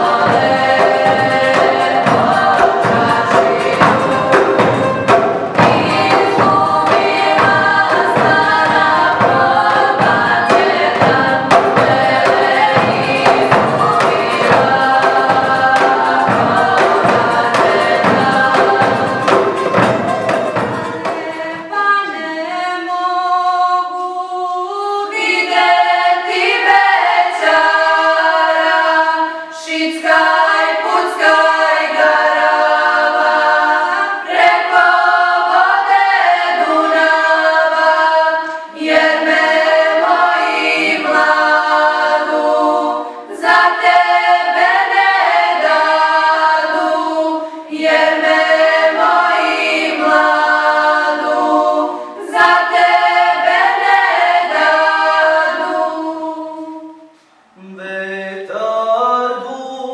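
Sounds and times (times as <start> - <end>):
girls singing a cappella: 0.0 - 59.9.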